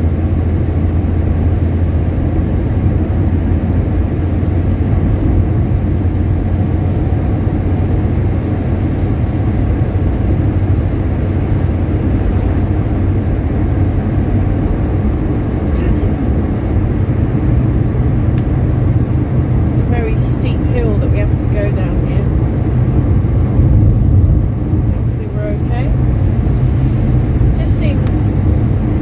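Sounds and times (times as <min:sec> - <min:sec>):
car engine droning from cabin: 0:00.0 - 0:29.0.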